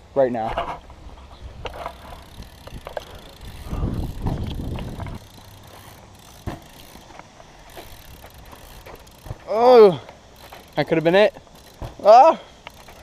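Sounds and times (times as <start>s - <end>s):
bike rolling on artificial turf: 0.2s - 13.0s.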